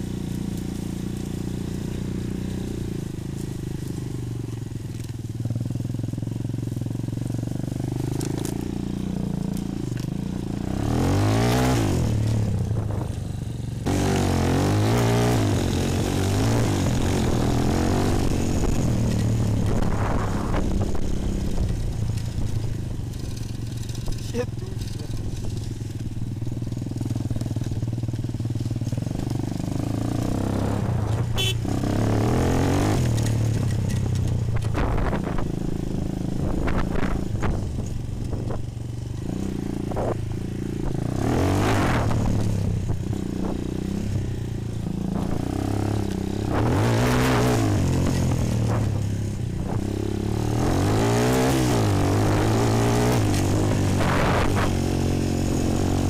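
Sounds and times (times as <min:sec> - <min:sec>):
quad engine revving: 0:05.6 - 0:26.1, 0:26.8 - 0:56.0.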